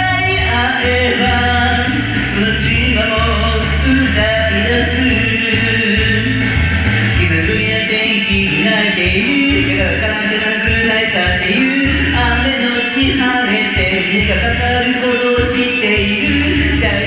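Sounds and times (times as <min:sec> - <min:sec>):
man singing: 0:00.0 - 0:17.0
pop backing track: 0:00.0 - 0:17.0.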